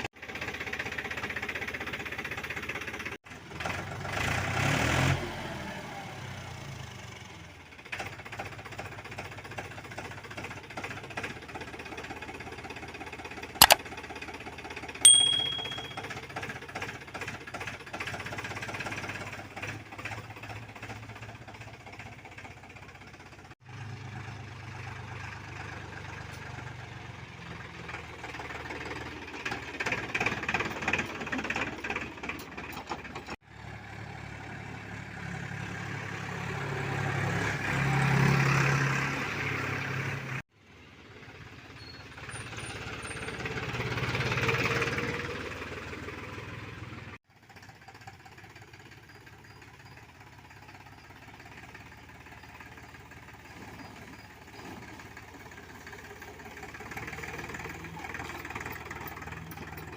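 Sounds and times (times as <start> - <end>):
tractor diesel engine running: 0.0 - 4.2, 7.1 - 37.4, 38.3 - 59.9.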